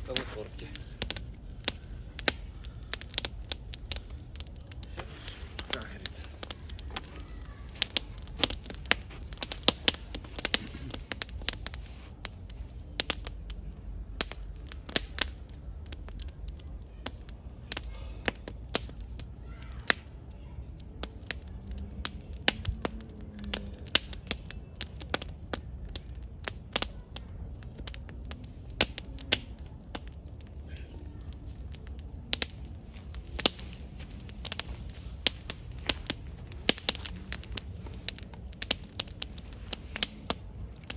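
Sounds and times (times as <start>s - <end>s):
campfire crackling and popping: 0.0s - 40.9s
low fire rumble: 0.0s - 40.9s.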